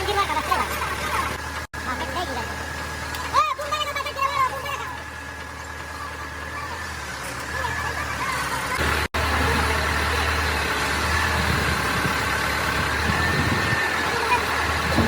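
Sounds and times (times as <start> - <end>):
heavy engine idling: 0.0 - 15.0.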